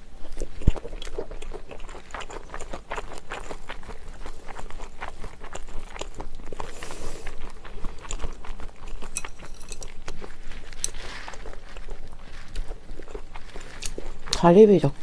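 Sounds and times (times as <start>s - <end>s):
close-miked chewing: 0.0s - 15.0s.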